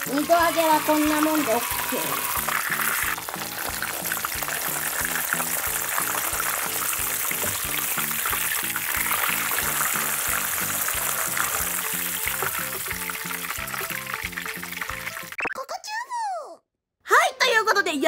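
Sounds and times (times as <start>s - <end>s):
background music with beat: 0.0s - 15.4s
cutlet sizzling in oil: 0.0s - 15.4s.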